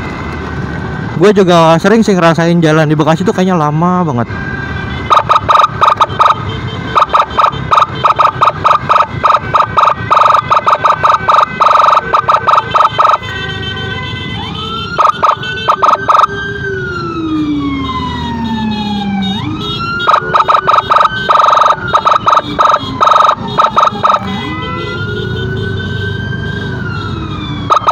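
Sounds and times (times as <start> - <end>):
emergency vehicle siren: 0.0 - 27.9.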